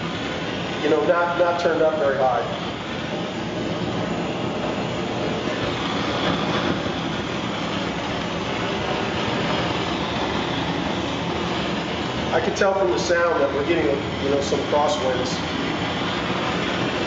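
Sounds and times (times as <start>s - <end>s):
propane torch hissing: 0.0s - 17.0s.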